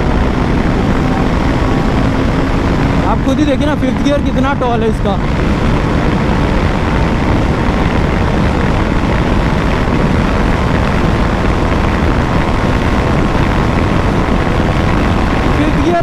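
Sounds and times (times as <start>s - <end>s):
motorcycle engine running: 0.0s - 16.0s
wind rush on microphone: 0.0s - 16.0s.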